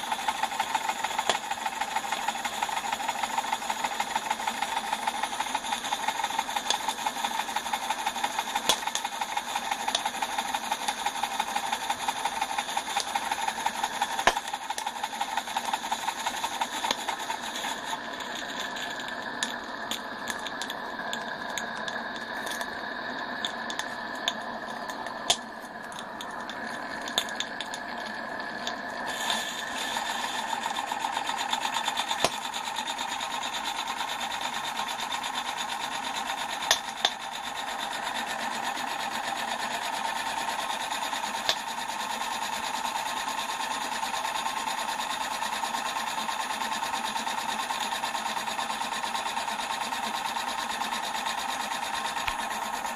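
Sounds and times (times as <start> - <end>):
steam engine mechanical chatter: 0.0 - 52.9.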